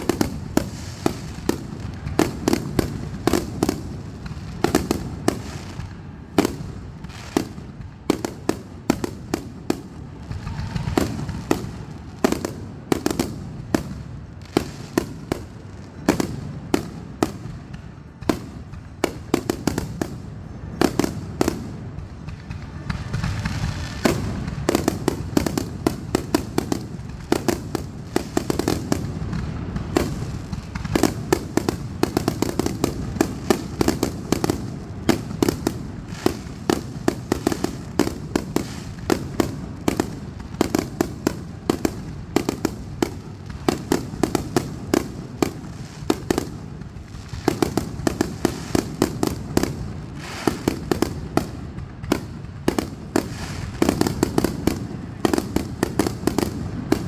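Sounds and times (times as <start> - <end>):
fireworks bangs and pops: 0.0 - 57.0.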